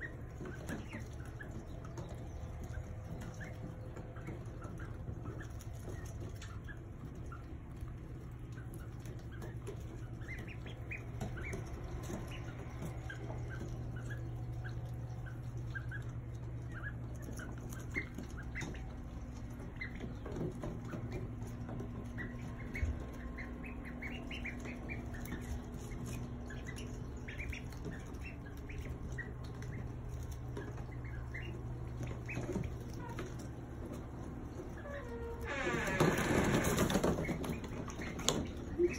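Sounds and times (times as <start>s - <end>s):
ducklings peeping: 0.0s - 38.9s
steady low hum: 0.0s - 38.9s.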